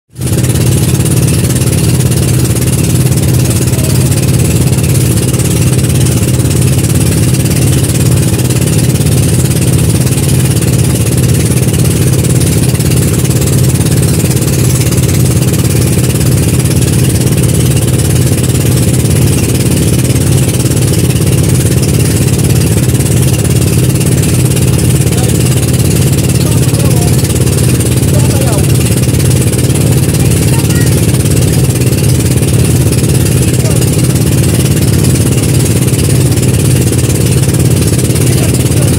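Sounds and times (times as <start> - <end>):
boat engine running: 0.1 - 38.9.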